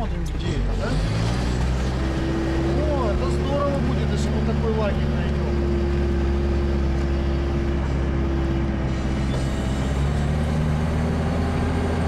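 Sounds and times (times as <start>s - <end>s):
all-terrain vehicle engine running: 0.0s - 12.0s.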